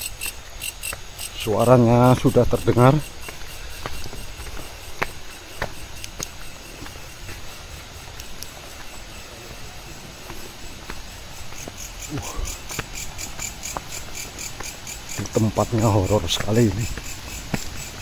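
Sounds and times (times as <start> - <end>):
crickets chirping: 0.0 - 18.0
footsteps on forest path: 0.0 - 18.0
higher pulsing insect chirp: 0.0 - 18.0.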